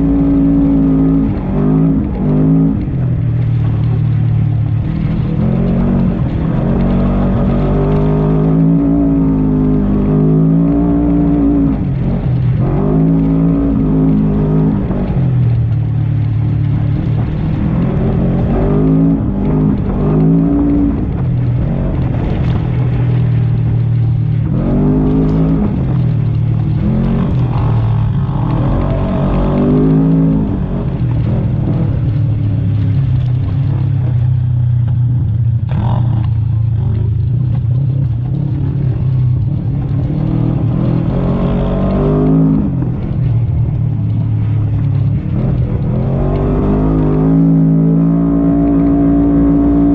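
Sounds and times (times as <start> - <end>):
engine revving under load: 0.0 - 49.9.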